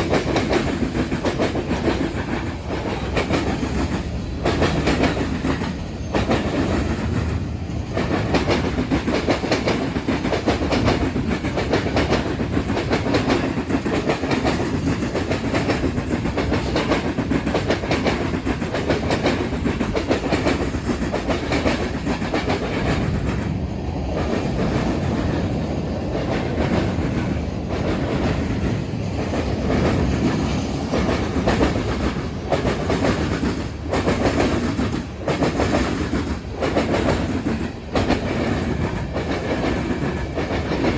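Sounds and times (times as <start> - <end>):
train wheels clattering over crossing: 0.0 - 40.9.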